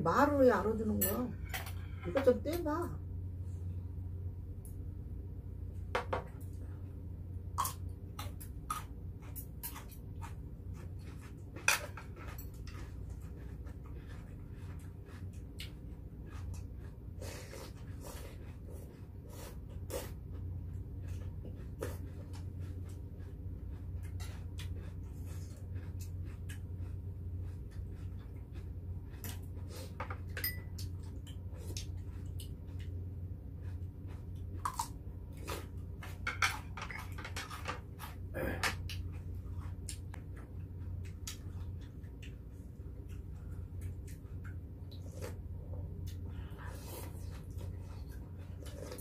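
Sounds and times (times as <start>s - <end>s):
steady low hum: 0.0s - 49.0s
chewing: 7.6s - 49.0s.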